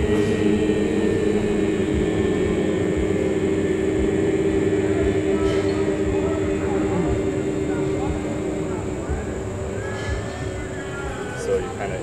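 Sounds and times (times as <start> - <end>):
group of voices chanting: 0.0 - 12.0.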